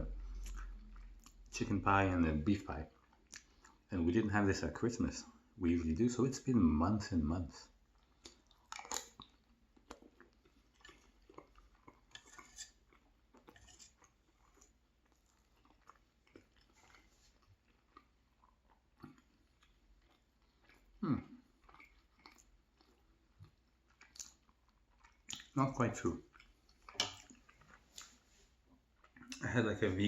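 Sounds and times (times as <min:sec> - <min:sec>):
chewing and wet mouth sounds: 0:00.0 - 0:04.2, 0:07.5 - 0:29.8.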